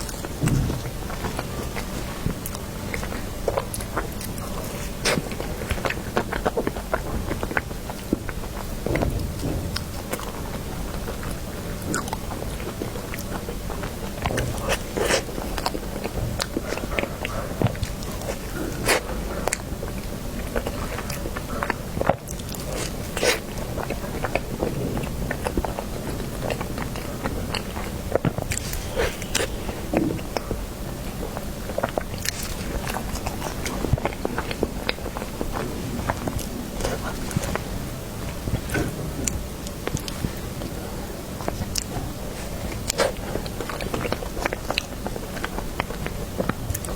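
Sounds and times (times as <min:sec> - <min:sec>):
person chewing cake: 0:00.0 - 0:46.9.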